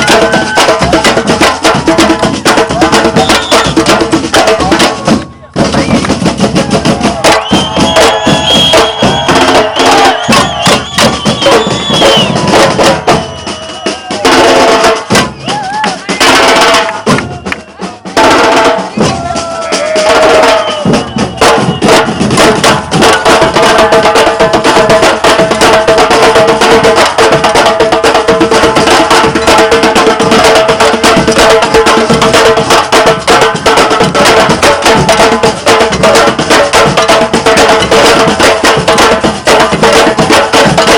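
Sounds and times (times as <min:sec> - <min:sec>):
samba percussion drumming: 0:00.0 - 0:40.9.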